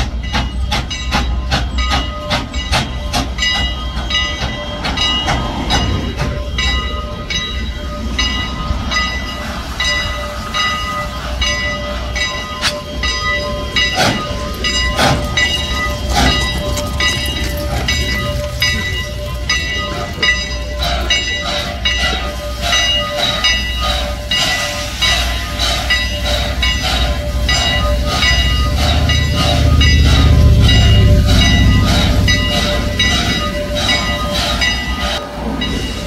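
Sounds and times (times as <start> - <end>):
locomotive bell ringing: 0.0 - 36.0
low locomotive rumble: 0.0 - 36.0.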